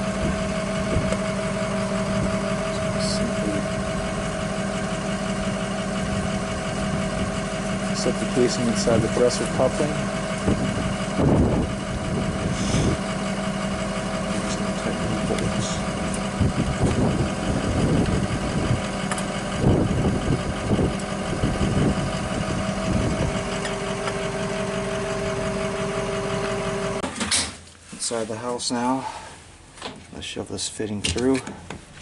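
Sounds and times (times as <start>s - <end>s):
engine idling: 0.0s - 27.8s.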